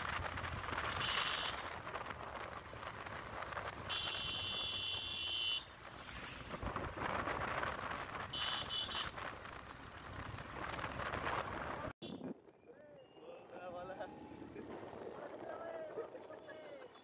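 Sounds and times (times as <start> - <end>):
motorcycle wind and road noise: 0.0 - 12.6, 13.7 - 17.0.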